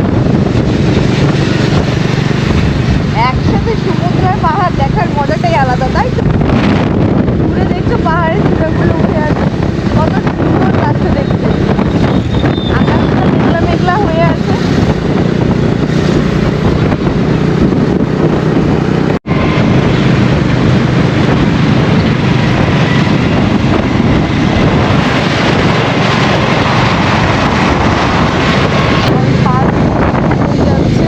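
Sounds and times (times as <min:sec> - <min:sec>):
motorcycle engine drone: 0:00.0 - 0:31.0
wind rushing over microphone: 0:00.0 - 0:31.0.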